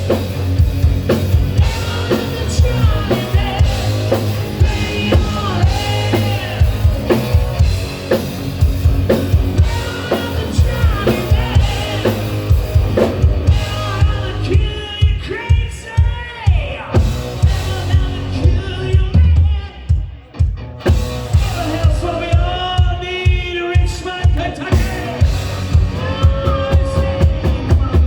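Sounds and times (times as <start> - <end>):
drum kit beat: 0.0 - 28.0
person singing: 1.6 - 7.4, 9.5 - 19.8, 21.3 - 28.0.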